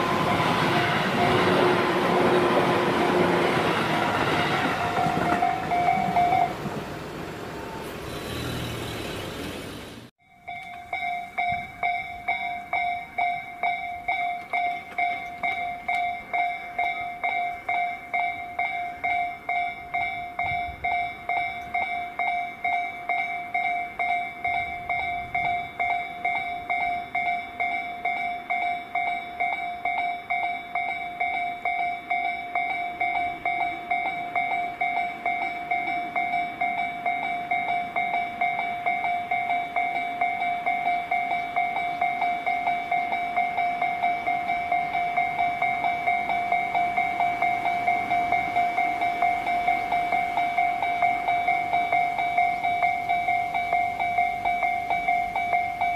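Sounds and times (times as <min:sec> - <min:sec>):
level crossing alarm ringing: 0:00.0 - 0:06.7, 0:10.2 - 0:55.9.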